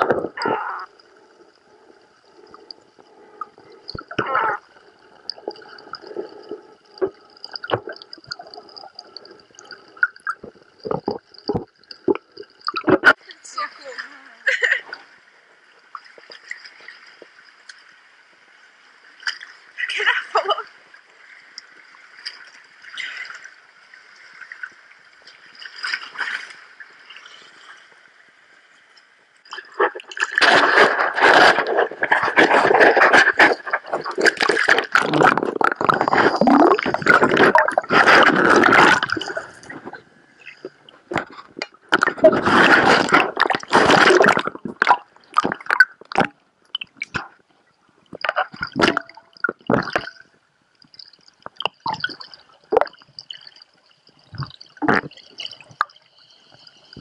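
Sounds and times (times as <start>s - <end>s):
sea water sloshing and splashing: 0.0s - 13.2s, 21.1s - 28.2s, 29.5s - 47.4s, 48.0s - 57.0s.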